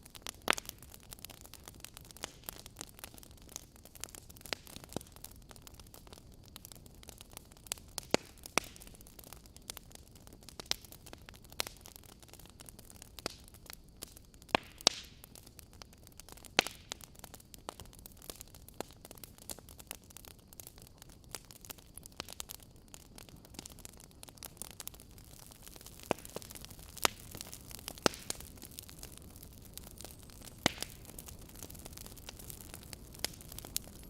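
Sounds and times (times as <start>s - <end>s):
fire crackling and popping: 0.0s - 34.0s
low fire hiss: 0.0s - 34.0s.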